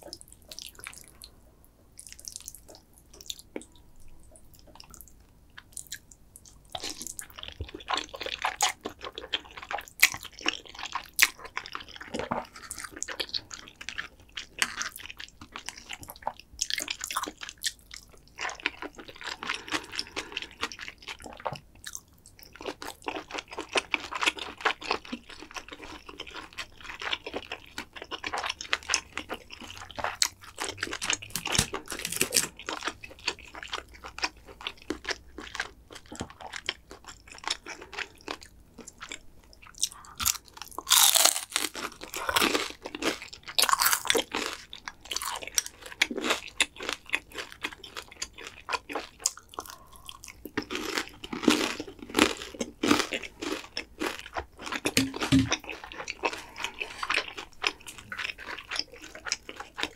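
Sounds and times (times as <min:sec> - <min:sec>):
wet chewing: 0:02.0 - 0:59.9
crunching fried food: 0:05.6 - 0:59.9.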